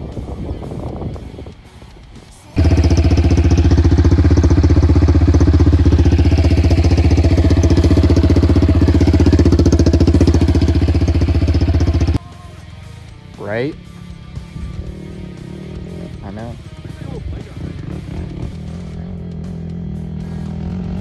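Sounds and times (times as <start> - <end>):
quad engine running: 2.6 - 12.2, 13.4 - 21.0.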